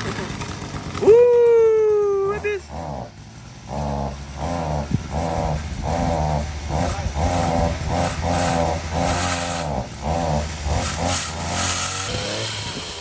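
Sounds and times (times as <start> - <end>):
pole saw engine revving: 2.0 - 13.0.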